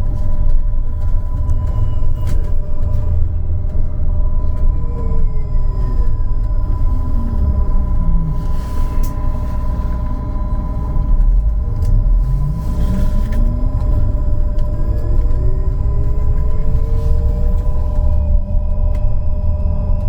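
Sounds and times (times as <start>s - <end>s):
road rumble: 0.0s - 20.0s.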